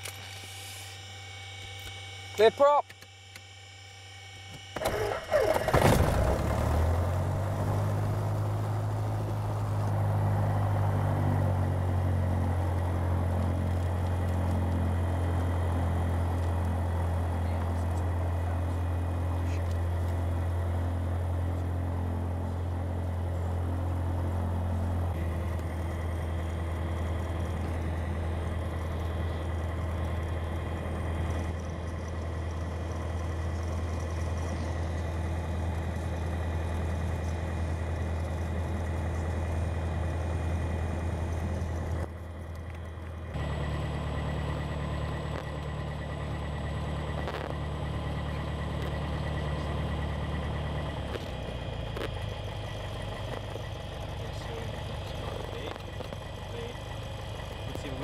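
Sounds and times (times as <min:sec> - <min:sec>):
aircraft engine hum in cabin: 0:00.0 - 0:58.0.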